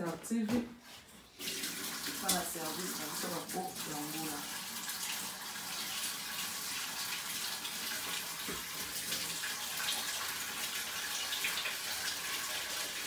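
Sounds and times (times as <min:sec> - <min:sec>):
water running from a tap: 0:01.3 - 0:13.0.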